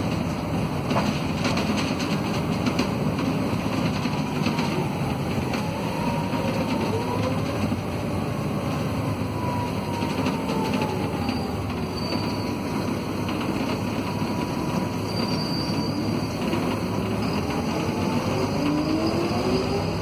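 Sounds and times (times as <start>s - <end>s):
bus engine rumble with whine: 0.0s - 20.0s.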